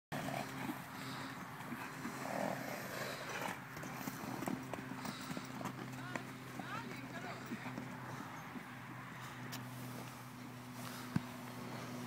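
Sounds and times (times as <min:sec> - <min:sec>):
hoofbeats on soft dirt: 0:00.2 - 0:12.0
steady low hum: 0:00.2 - 0:12.0.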